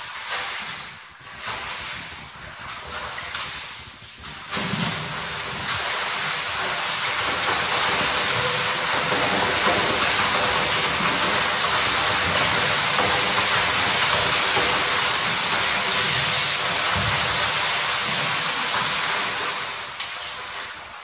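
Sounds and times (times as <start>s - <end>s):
water splashing in a pool: 0.0s - 21.0s.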